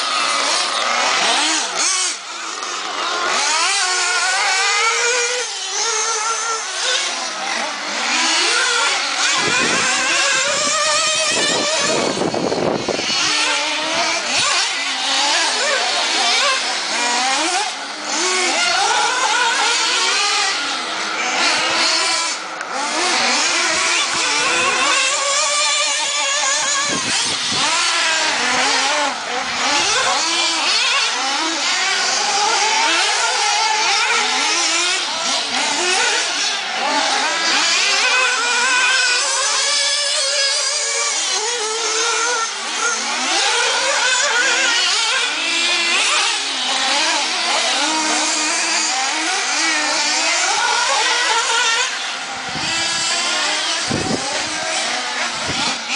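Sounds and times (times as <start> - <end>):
rc buggy motors whining: 0.0 - 55.9.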